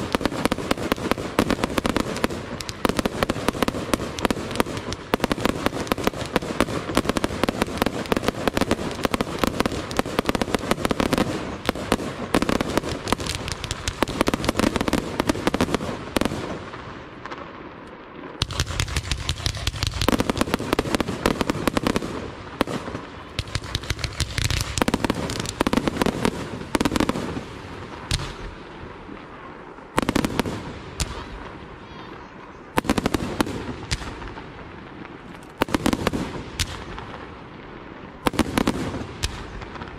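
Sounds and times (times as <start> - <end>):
fireworks bursts and bangs: 0.0 - 39.9.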